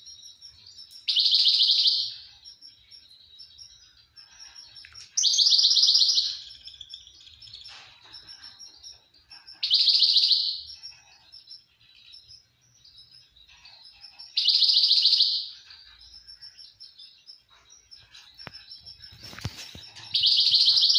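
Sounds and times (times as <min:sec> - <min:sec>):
finch singing buzzy trills: 0:00.0 - 0:20.9
quiet twittering: 0:00.0 - 0:20.9.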